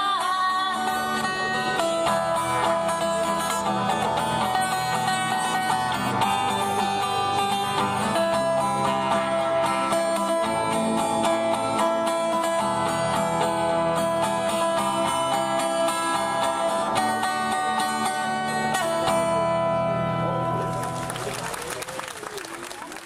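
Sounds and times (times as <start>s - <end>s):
acoustic guitar strummed: 0.0s - 21.1s.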